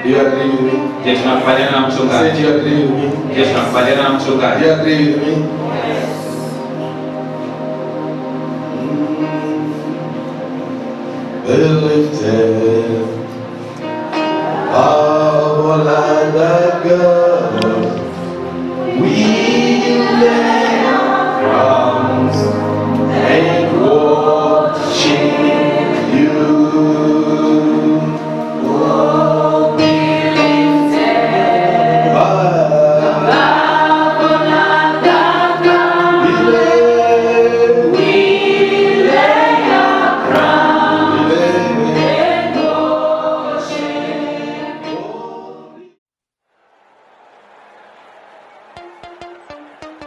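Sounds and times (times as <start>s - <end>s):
gospel choir singing: 0.0s - 46.0s
steady music: 0.0s - 46.0s, 48.8s - 50.0s.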